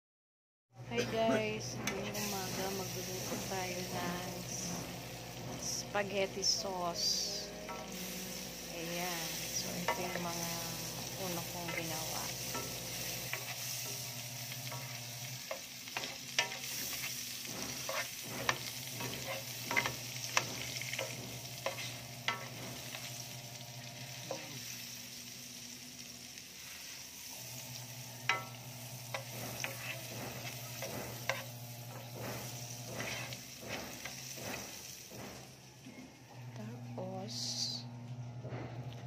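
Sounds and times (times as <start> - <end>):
food sizzling in a frying pan: 0.9 - 38.1.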